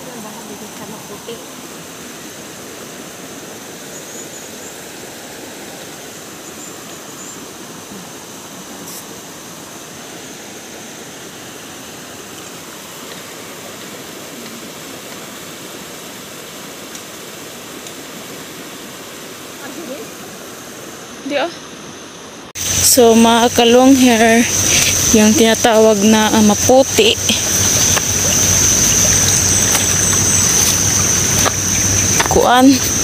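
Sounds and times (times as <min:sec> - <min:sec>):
flowing river water: 0:00.0 - 0:33.0.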